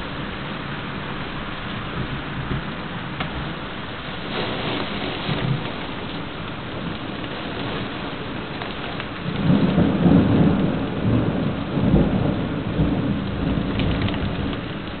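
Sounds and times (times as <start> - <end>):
heavy rain pouring: 0.0 - 15.0
rumble of thunder: 1.2 - 15.0.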